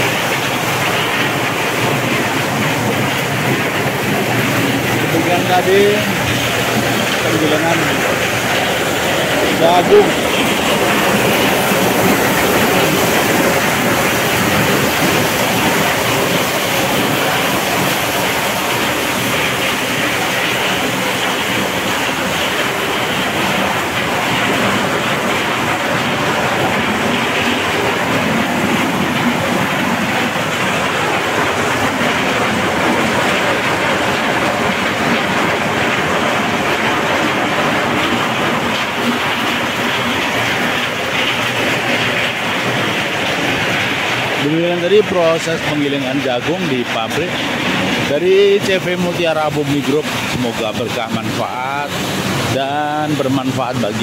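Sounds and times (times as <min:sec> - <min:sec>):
corn-shelling machine running: 0:00.0 - 0:54.0.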